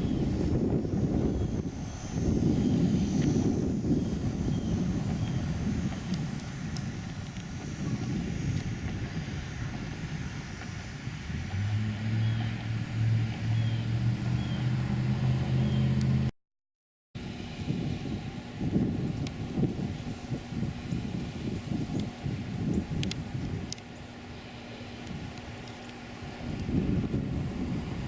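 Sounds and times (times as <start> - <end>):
low engine drone: 0.0 - 16.3, 17.2 - 28.0
road and wind rumble: 0.0 - 16.3, 17.2 - 28.0.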